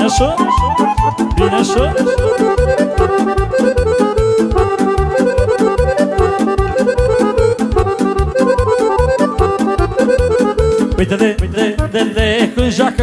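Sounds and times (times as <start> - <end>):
fast oom-pah party music: 0.0 - 13.0.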